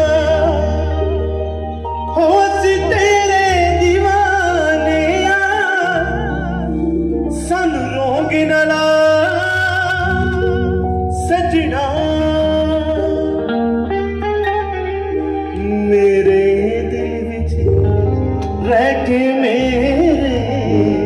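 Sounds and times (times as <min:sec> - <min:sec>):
bass guitar: 0:00.0 - 0:21.0
electric guitar: 0:00.0 - 0:21.0
keyboard: 0:00.0 - 0:21.0
man singing: 0:00.0 - 0:21.0.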